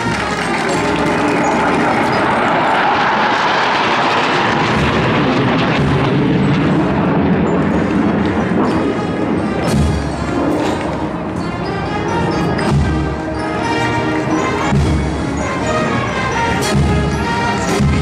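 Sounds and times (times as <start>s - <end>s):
brass marching band playing: 0.0s - 18.0s.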